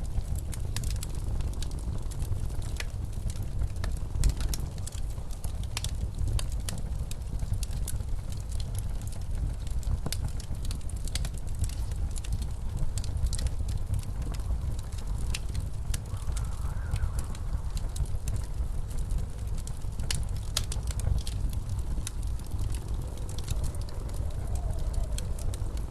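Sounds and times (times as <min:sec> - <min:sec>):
blizzard wind rumble: 0:00.0 - 0:25.9
wood fire crackling and popping: 0:00.0 - 0:25.9.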